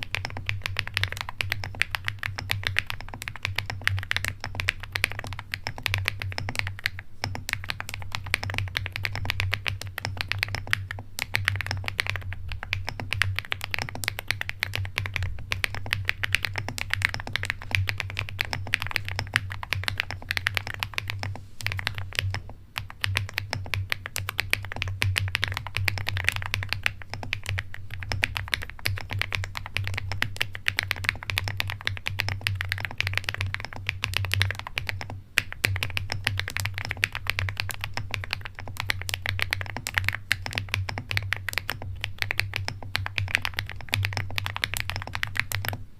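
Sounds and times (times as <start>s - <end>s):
fast typing on mechanical keyboard: 0.0s - 45.9s
steady low hum: 0.0s - 45.9s.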